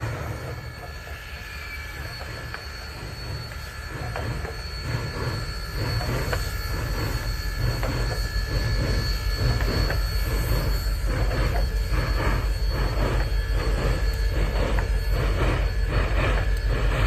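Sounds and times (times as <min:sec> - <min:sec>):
steam locomotive chuffing: 0:00.0 - 0:17.0.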